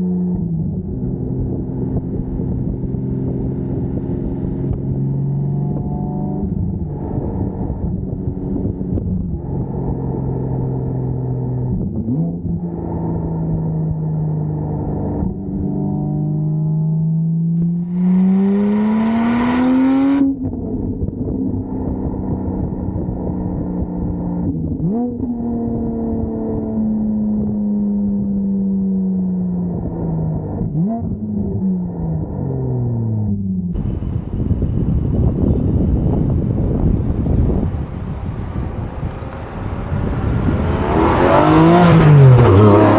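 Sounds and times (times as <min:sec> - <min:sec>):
sports car engine revving: 0:00.0 - 0:21.0, 0:21.9 - 0:42.9.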